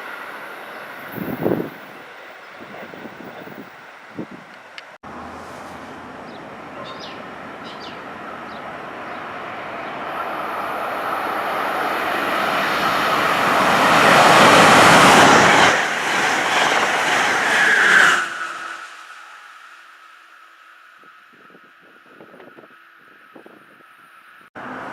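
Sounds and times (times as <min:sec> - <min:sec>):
electric train passing: 0:00.0 - 0:24.9.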